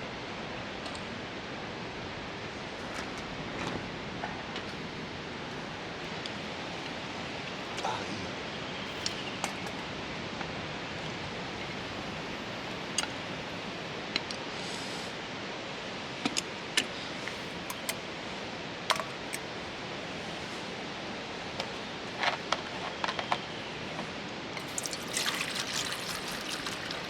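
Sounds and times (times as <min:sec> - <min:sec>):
steady rushing hiss: 0:00.0 - 0:27.0.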